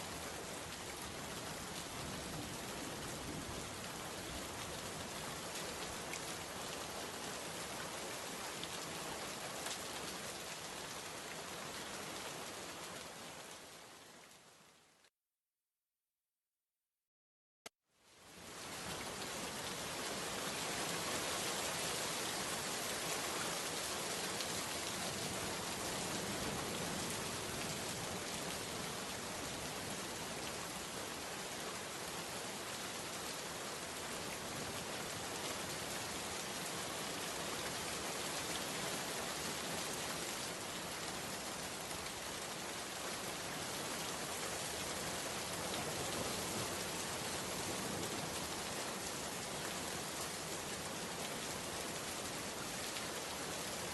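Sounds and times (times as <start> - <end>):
steady rain falling: 0.0 - 15.1, 18.0 - 53.9.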